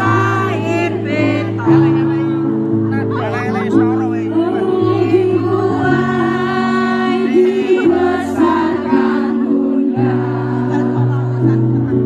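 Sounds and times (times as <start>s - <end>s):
woman singing slow melody: 0.0s - 2.1s, 4.4s - 12.0s
held chords and bass notes: 0.0s - 12.0s.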